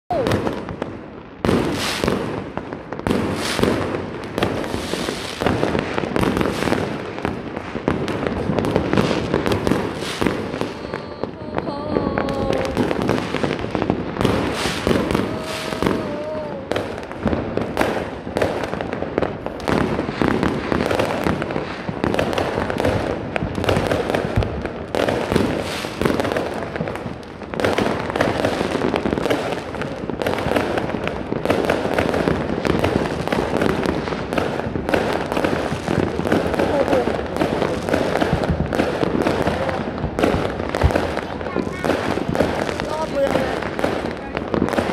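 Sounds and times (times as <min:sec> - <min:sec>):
fireworks crackling and banging: 0:00.1 - 0:44.9.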